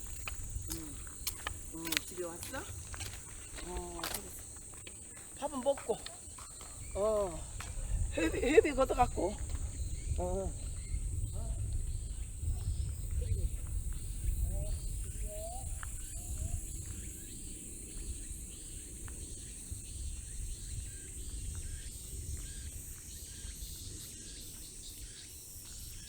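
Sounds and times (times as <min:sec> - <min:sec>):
insects trilling: 0:00.0 - 0:26.0
pulsing insect chirp: 0:00.0 - 0:26.0.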